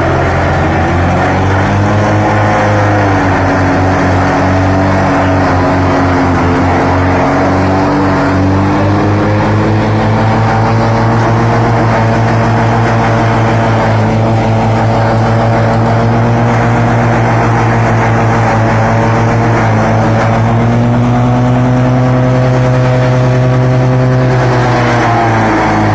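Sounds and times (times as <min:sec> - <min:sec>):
tractor engine under load: 0:00.0 - 0:25.9.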